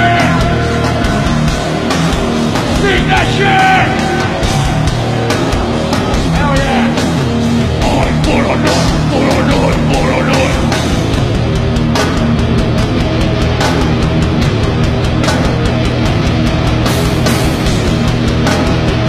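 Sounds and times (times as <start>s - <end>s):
loud rock music: 0.0s - 19.0s
steady drum beat: 0.0s - 19.0s.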